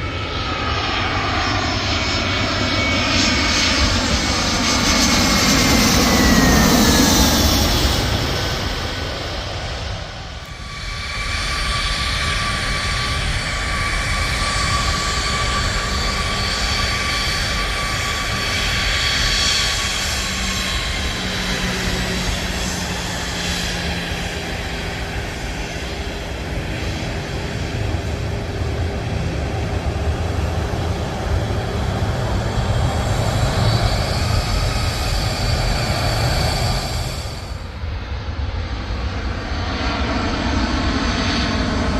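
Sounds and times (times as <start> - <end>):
jet airliner passing overhead: 0.0 - 41.9.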